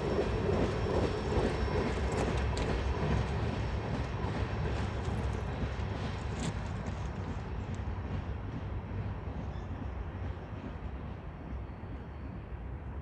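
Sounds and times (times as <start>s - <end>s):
freight train rumbling by: 0.0s - 13.0s.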